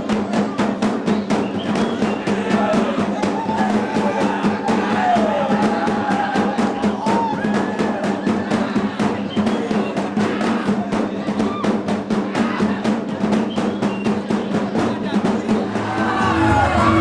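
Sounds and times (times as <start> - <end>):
fast steady drumming: 0.0 - 17.0.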